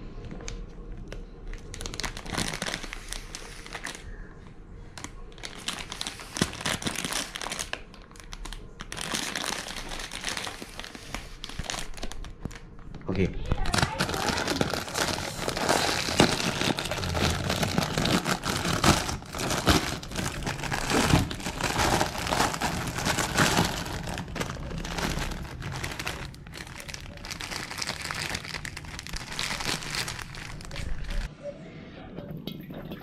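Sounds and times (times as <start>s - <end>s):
plastic packaging crinkling: 1.0s - 4.3s, 5.0s - 31.3s.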